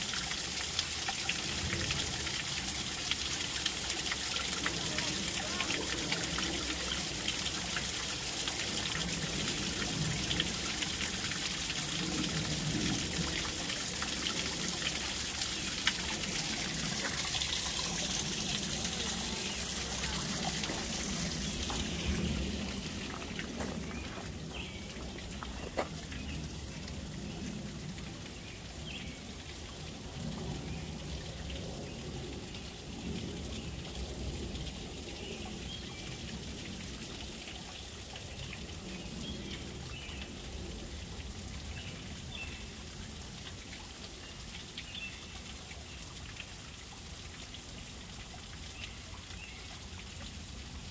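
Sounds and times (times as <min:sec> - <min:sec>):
small waterfall splashing: 0:00.0 - 0:50.9.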